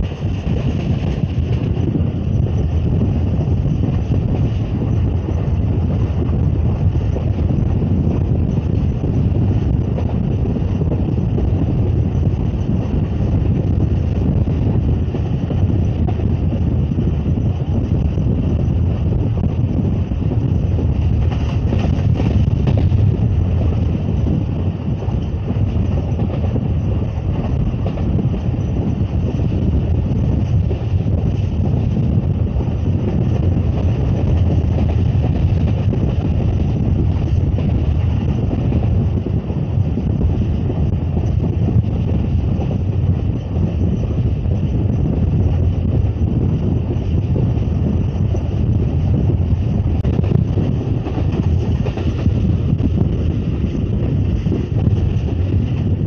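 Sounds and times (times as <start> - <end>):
passenger train rumbling: 0.0 - 56.0
wind buffeting microphone: 0.0 - 56.0.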